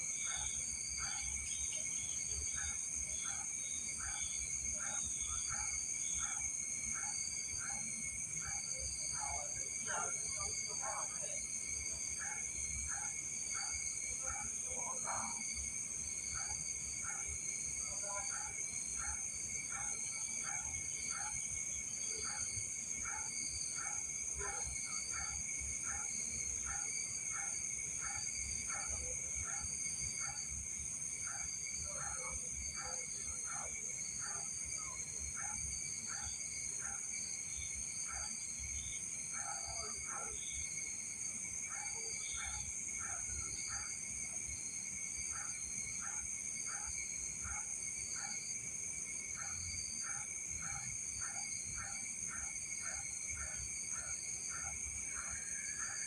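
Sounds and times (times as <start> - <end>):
insects chirping: 0.0 - 56.0
insects trilling: 0.0 - 56.0.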